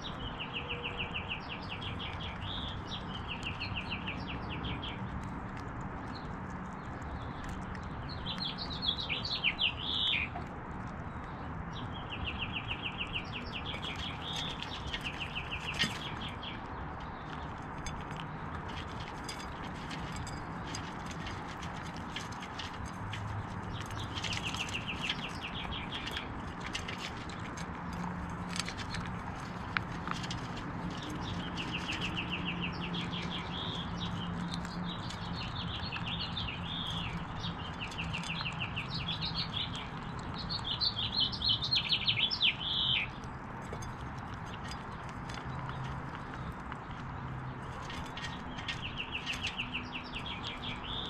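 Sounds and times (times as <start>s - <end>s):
songbirds chirping: 0.0s - 51.0s
squirrel nibbling seeds: 1.1s - 51.0s.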